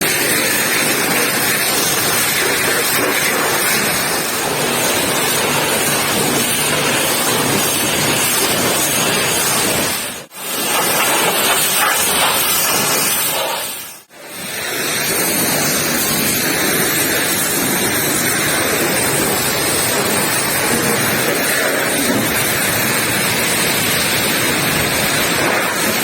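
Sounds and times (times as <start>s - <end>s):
pressure washer spraying: 0.0s - 26.0s.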